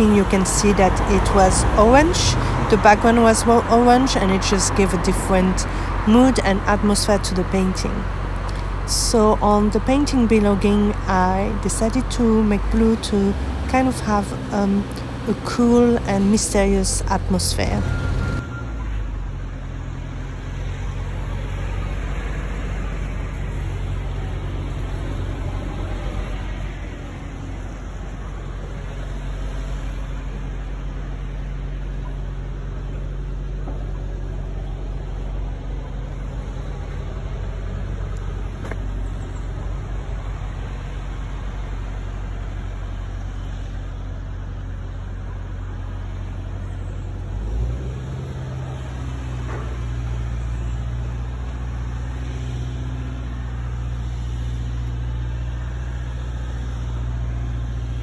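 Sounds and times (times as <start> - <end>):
motor engine humming: 0.0 - 58.0.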